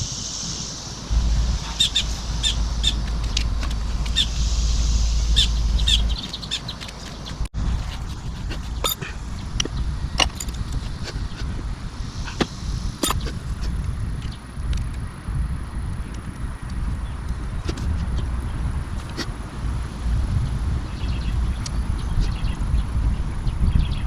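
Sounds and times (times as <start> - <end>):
birds chirping: 0.0 - 14.5, 17.0 - 24.0
steady low rumble: 0.0 - 24.0.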